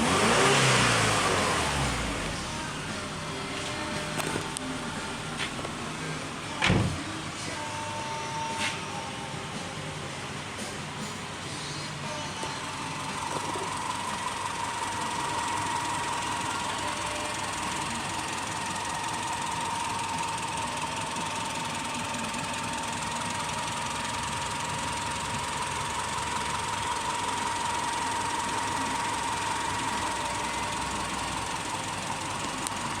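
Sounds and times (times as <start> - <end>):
car engine idling: 0.0 - 33.0
steady whine: 1.0 - 33.0.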